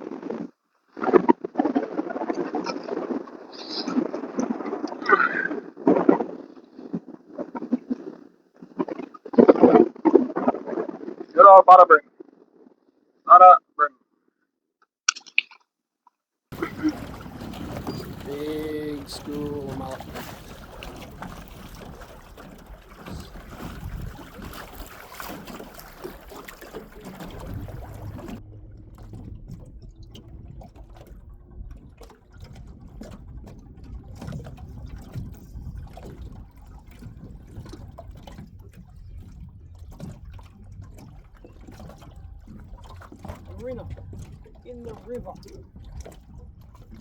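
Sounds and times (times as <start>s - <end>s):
water lapping against boat hull: 0.0s - 12.7s, 15.2s - 47.0s.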